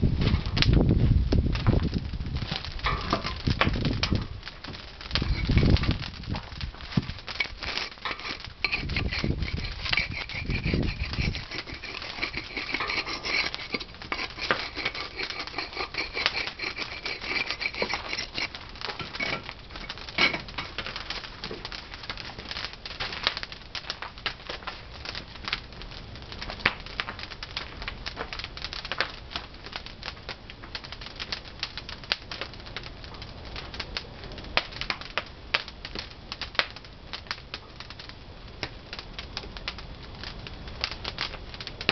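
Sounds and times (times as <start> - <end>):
firewood crackling and popping: 0.0 - 41.9.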